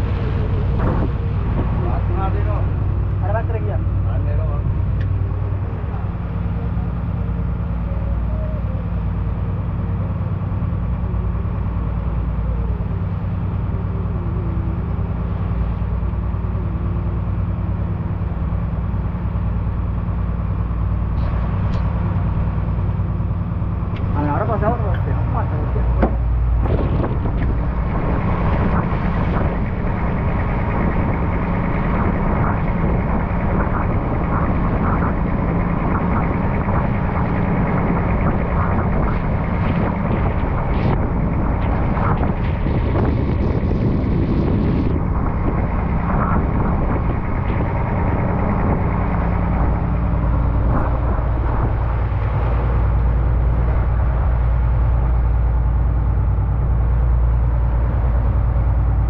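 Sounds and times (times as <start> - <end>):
boat engine droning: 0.0 - 59.0
wind on microphone: 0.0 - 59.0.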